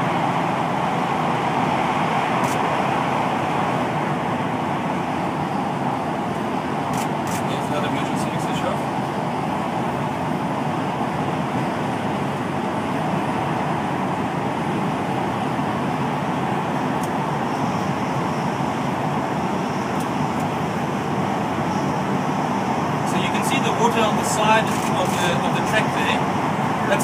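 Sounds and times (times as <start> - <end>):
electric train rumbling in tunnel: 0.0 - 27.0.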